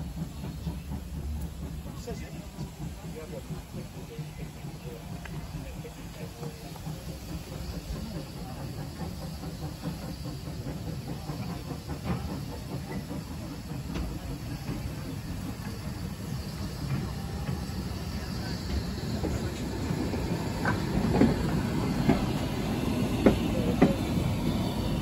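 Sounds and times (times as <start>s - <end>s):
steam hiss: 0.0s - 25.0s
train wheels rumbling on rails: 0.0s - 25.0s.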